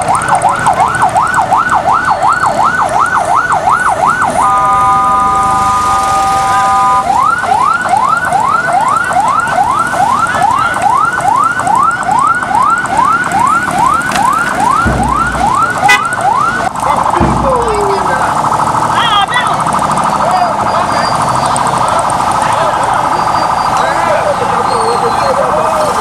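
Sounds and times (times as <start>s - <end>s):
electronic siren: 0.0s - 26.0s.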